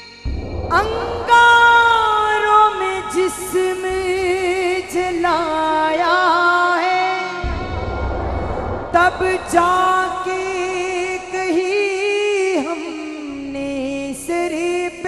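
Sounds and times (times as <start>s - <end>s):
woman singing through microphone: 0.7s - 7.4s, 9.0s - 15.0s.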